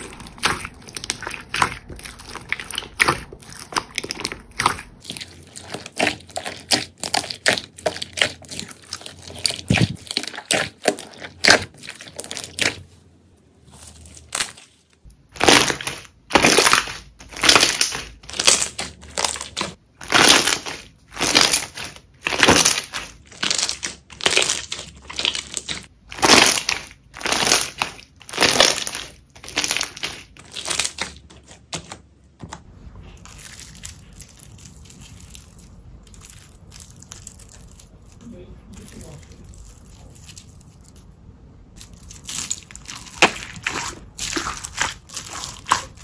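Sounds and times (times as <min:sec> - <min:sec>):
slime squishing: 0:00.0 - 0:46.0.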